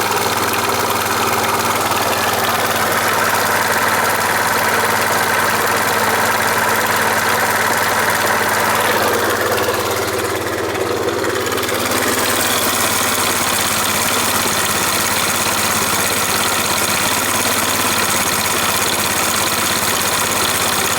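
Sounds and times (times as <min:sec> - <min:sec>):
harsh mechanical clatter: 0:00.0 - 0:20.9
scooter engine idling: 0:00.0 - 0:20.9.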